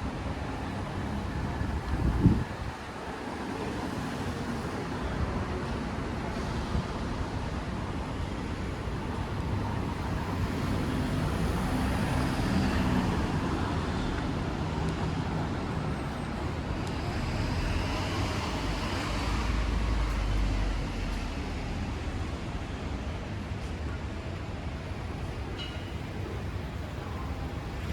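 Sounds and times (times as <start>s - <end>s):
traffic passing: 0.2s - 23.4s.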